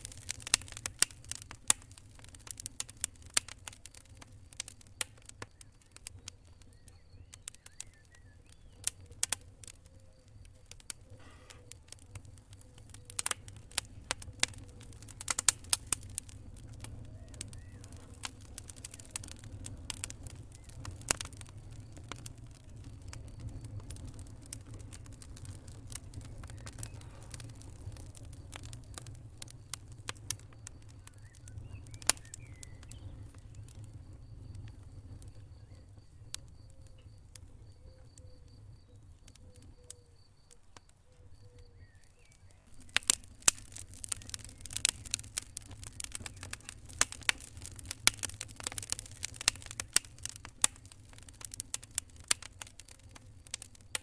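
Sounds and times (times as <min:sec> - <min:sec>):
fire crackling and popping: 0:00.0 - 0:54.0
fire low rumble: 0:00.0 - 0:54.0.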